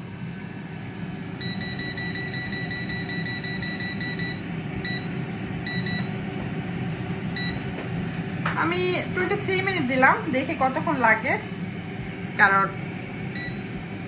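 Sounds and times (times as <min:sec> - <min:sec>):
air fryer fan humming: 0:00.0 - 0:14.0.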